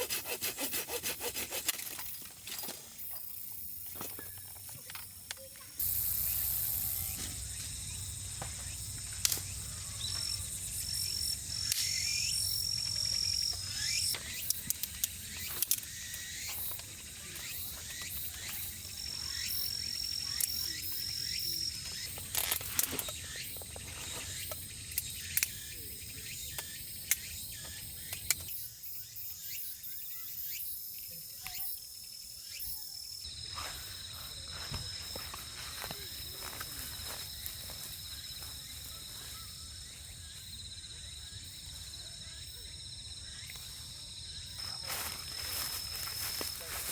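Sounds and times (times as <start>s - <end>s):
insects chirping in trills: 0.0s - 46.9s.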